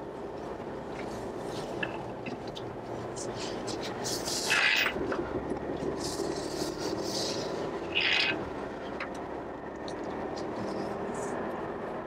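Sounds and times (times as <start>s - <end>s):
road and engine noise in cabin: 0.0s - 12.0s.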